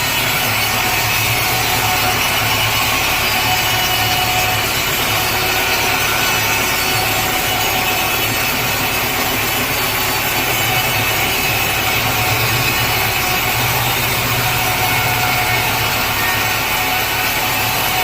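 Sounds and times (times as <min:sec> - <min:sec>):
saw cutting through log: 0:00.0 - 0:18.0.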